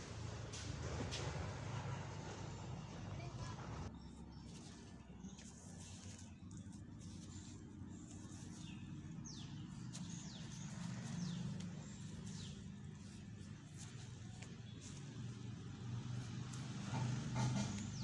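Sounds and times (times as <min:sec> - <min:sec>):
faint birdsong chirps: 0:03.2 - 0:18.0.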